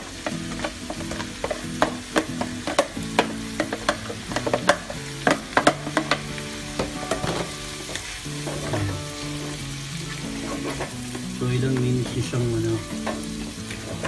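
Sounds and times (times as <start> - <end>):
food sizzling in a pan: 0.0 - 14.0
utensil scraping a pan: 0.0 - 14.0.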